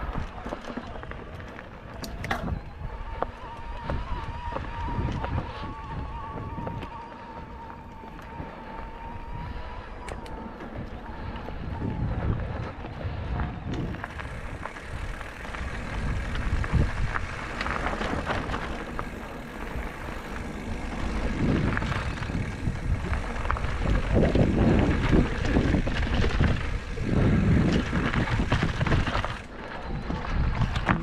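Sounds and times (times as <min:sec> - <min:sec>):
bike clicks and rattles: 0:00.0 - 0:31.0
bike tyres rolling on dirt: 0:00.0 - 0:31.0
wind on microphone: 0:01.9 - 0:31.0.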